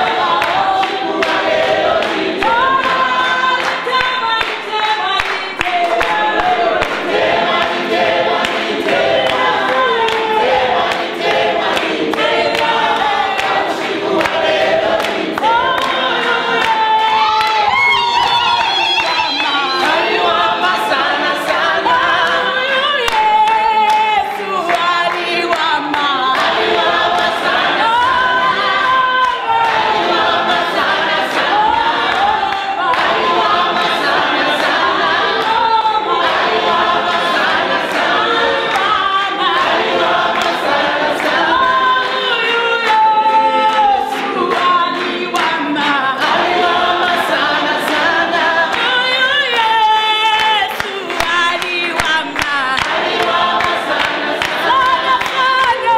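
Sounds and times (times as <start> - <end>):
group singing worship song: 0.0 - 55.9.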